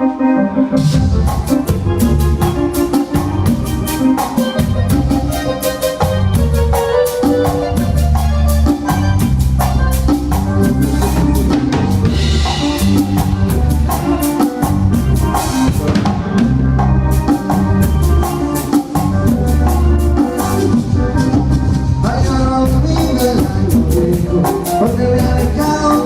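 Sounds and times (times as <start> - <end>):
live band playing instrumental: 0.0 - 26.0
drum kit and percussion beat: 0.8 - 26.0.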